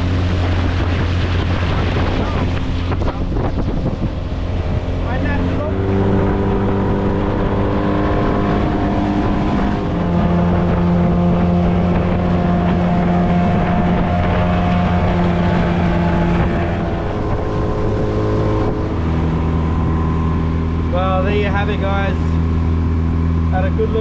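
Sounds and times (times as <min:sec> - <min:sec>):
outboard motor running: 0:00.0 - 0:24.0
wind on microphone: 0:00.0 - 0:24.0.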